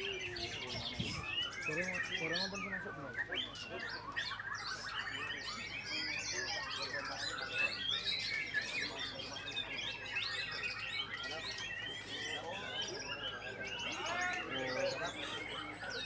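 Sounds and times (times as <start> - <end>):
other songbirds singing: 0.0 - 16.0
songbird singing rapid whistles: 0.0 - 16.0.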